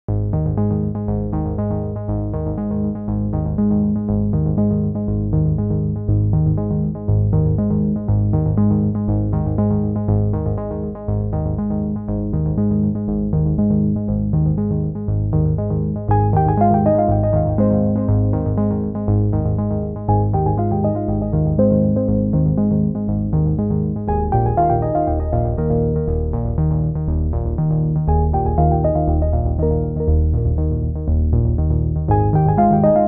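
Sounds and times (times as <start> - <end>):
deep bass line: 0.1 - 33.0
synthesizer and keyboard music: 0.1 - 33.0.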